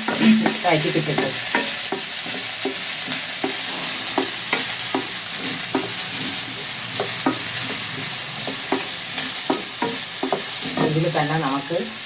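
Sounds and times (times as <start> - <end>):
spoon scraping and knocking pan: 0.0 - 11.6
vegetables sizzling in hot oil: 0.0 - 12.0.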